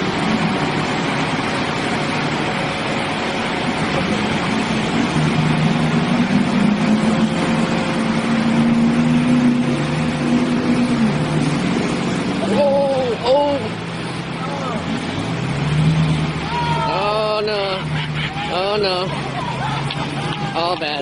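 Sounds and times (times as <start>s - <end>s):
heavy truck engine rumble: 0.0s - 21.0s
steady engine note: 0.0s - 21.0s.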